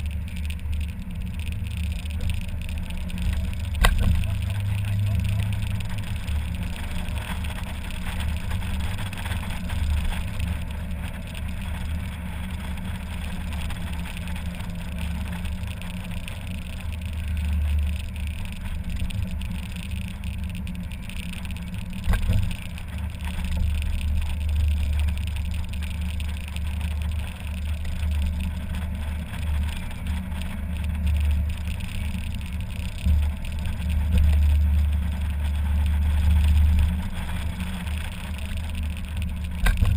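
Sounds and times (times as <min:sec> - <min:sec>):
car engine running: 0:00.0 - 0:39.9
low rumble: 0:00.0 - 0:39.9
wind and road noise: 0:00.0 - 0:39.9.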